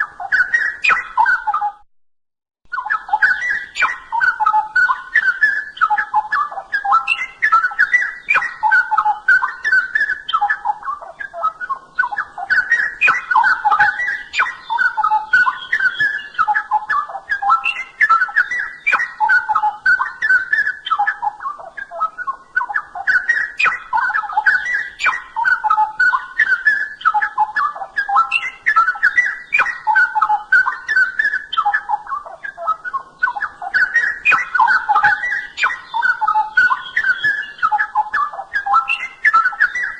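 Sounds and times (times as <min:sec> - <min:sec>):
bird singing warbled phrases: 0:00.0 - 0:01.8, 0:02.7 - 0:39.9.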